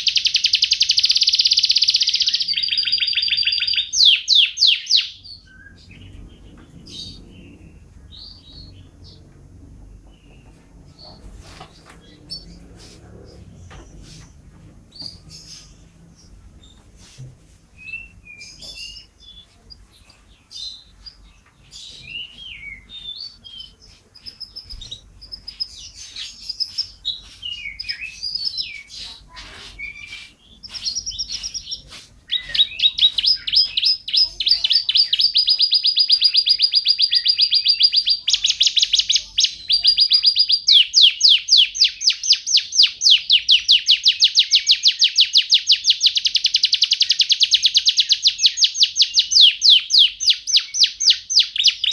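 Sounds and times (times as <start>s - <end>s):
canary singing: 0.0s - 16.8s, 17.7s - 51.9s.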